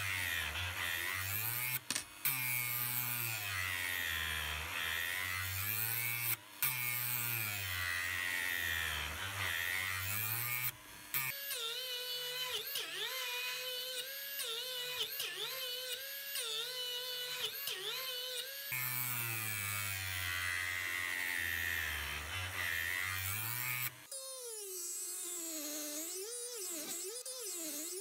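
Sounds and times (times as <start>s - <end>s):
rotary tool grinding steel: 0.0s - 28.0s.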